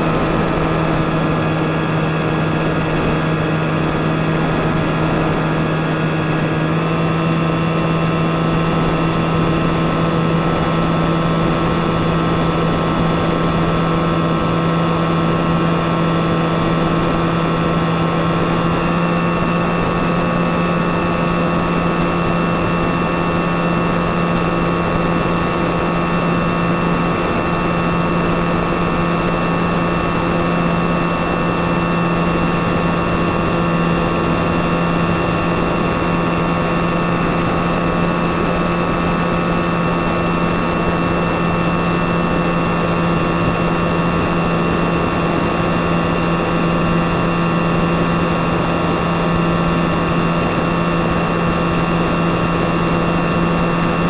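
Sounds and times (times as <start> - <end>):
model plane motor whine: 0.0 - 54.0.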